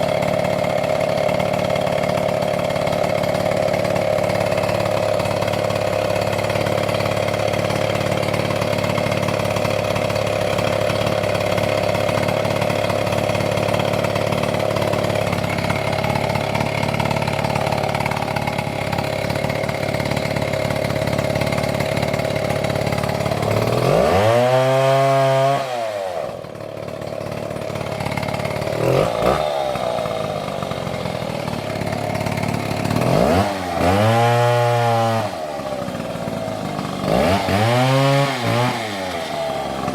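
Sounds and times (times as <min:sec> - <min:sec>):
chainsaw running under load: 0:00.0 - 0:39.9.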